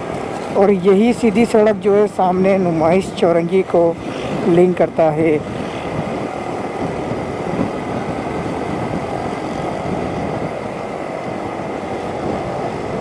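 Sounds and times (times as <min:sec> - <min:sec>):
engines running nearby: 0:00.0 - 0:13.0
vehicle and road noise: 0:00.0 - 0:13.0.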